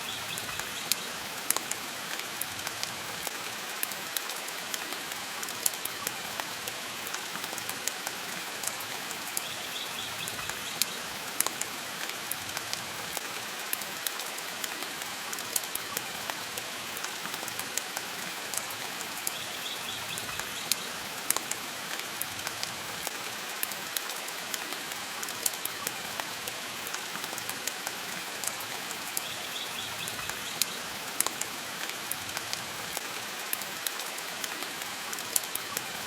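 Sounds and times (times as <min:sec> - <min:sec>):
rain hiss: 0:00.0 - 0:36.0.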